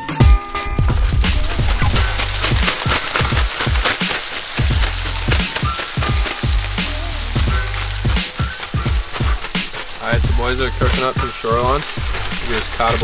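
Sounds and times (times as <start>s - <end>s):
background music: 0.0s - 13.0s
fish frying in hot oil: 0.5s - 13.0s.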